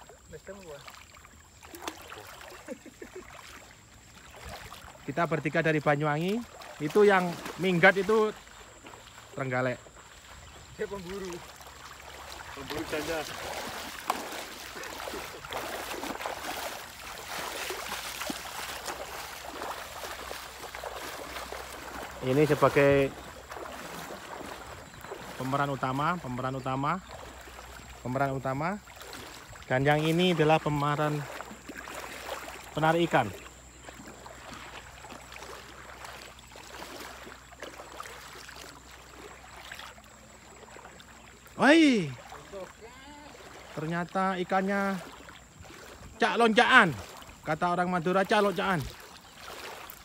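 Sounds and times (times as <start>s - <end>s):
flowing river water: 0.0s - 50.0s
water splashing from wading: 0.0s - 50.0s.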